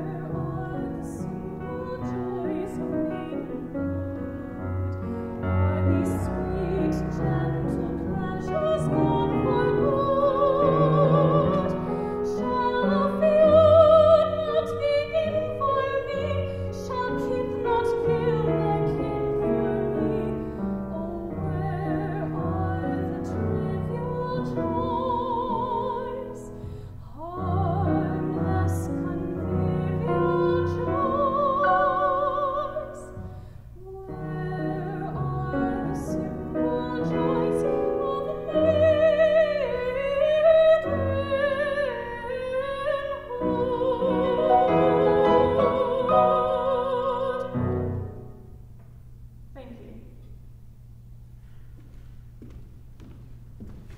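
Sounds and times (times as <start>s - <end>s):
woman singing with vibrato: 0.0s - 3.8s, 5.4s - 33.2s, 33.8s - 48.1s
grand piano: 0.0s - 53.9s.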